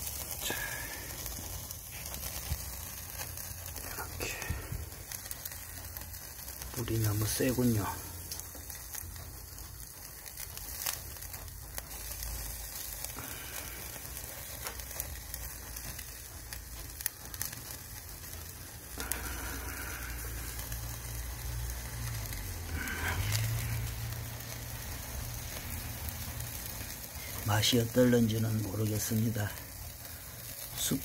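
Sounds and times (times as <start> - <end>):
charcoal popping and crackling: 0.0 - 31.0
meat sizzling on a grill: 0.0 - 31.0.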